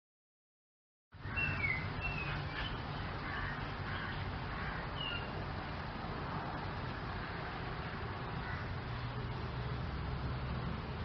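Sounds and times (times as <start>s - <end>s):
steady background noise: 1.2s - 11.0s.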